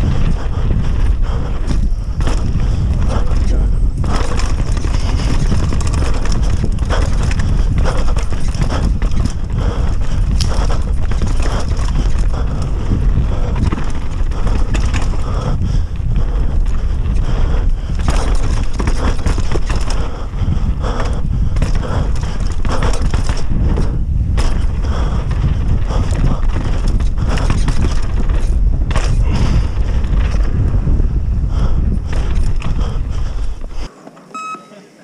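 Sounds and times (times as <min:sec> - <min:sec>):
wind on microphone: 0:00.0 - 0:33.9
bike knocks and rattles: 0:00.0 - 0:34.2
tyres rolling and skidding on dirt: 0:00.0 - 0:34.4.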